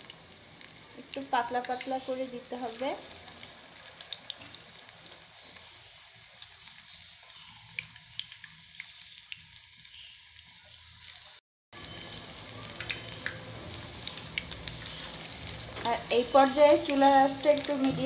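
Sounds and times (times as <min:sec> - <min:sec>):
fish patties sizzling in oil: 0:00.0 - 0:18.0.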